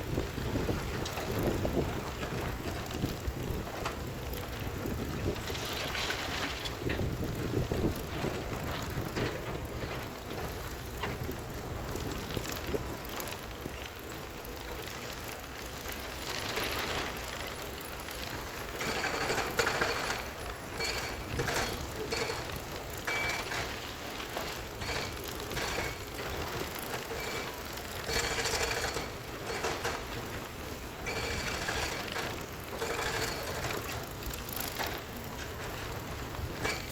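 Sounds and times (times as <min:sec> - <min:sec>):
rattling grinding clatter: 0:00.1 - 0:36.9.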